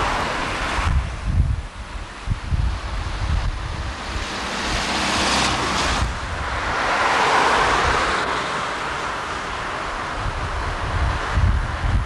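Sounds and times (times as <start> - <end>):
car passing: 0.0 - 1.3, 2.1 - 12.0
wind rumbling on microphone: 0.0 - 12.0.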